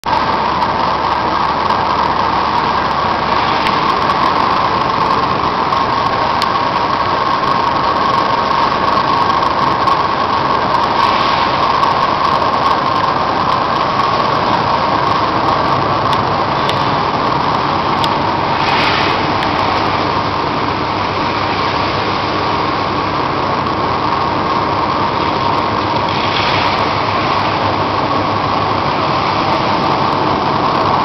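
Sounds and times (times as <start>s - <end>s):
machine drone with hum: 0.0s - 31.0s.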